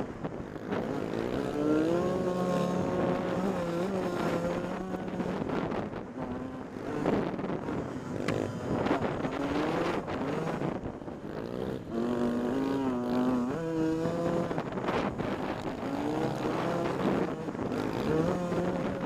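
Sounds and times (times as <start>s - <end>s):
wind noise: 0.0s - 19.0s
dirt bike engine revving: 0.4s - 19.0s.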